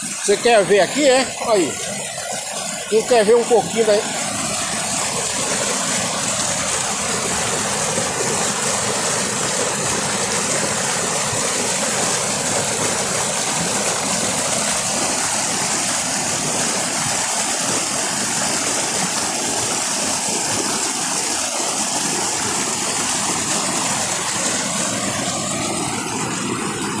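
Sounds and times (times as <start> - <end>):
stream rushing over boulders: 0.0 - 27.0.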